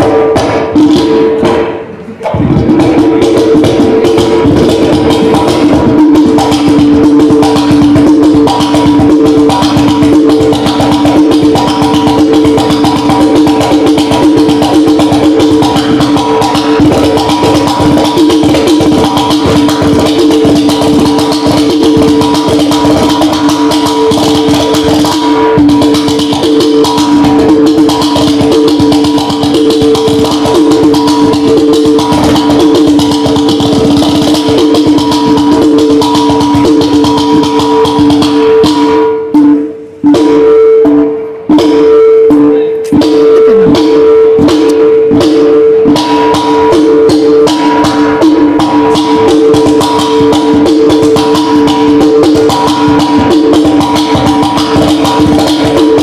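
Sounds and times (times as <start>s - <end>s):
hand drum played fast: 0.0s - 56.0s.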